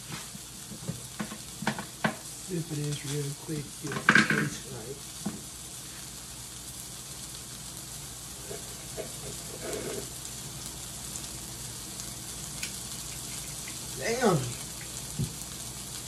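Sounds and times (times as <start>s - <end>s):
sausages sizzling in a frying pan: 0.0s - 16.0s.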